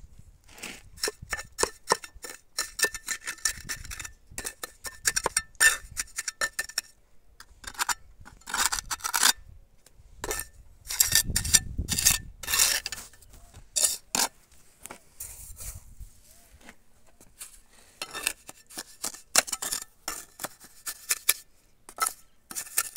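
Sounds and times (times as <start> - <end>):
trowel scraping mortar off blocks: 0.5 - 9.4, 10.2 - 15.6, 16.6 - 22.9.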